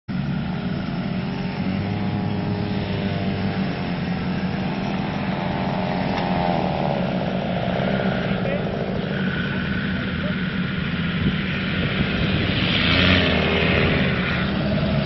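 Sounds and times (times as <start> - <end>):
off-road engines running: 0.1 - 15.0.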